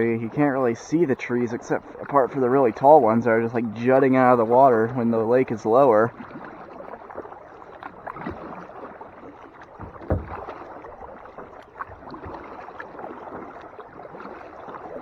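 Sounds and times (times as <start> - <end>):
paddle splashing water: 0.0 - 15.0
water lapping at hull: 0.0 - 15.0.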